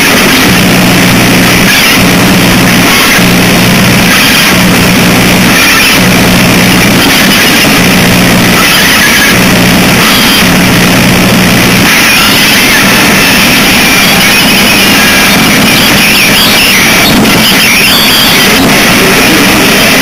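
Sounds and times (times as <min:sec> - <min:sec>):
distorted static noise: 0:00.0 - 0:20.0
low hum: 0:00.0 - 0:20.0.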